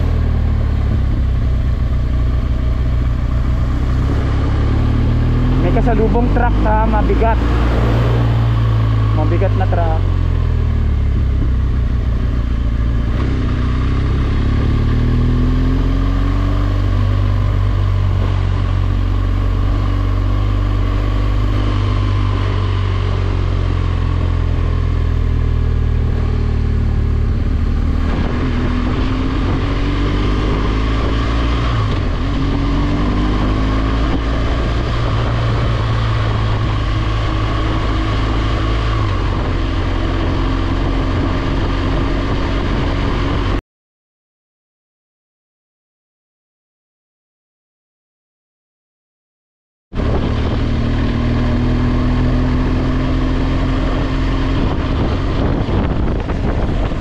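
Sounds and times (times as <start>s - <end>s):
motorcycle engine accelerating: 0.0s - 43.6s, 49.9s - 57.0s
wind rushing over microphone: 0.0s - 43.6s, 50.0s - 57.0s.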